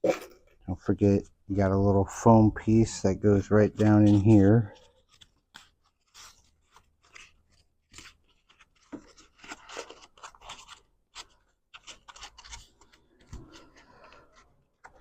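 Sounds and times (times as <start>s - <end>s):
rustling and scraping: 2.6s - 15.0s.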